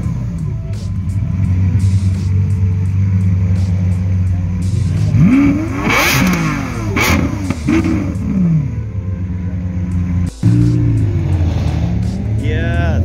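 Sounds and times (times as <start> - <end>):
car engine revving: 0.0 - 13.0
exhaust blasts: 0.0 - 13.0
low drone of engines: 0.0 - 13.0.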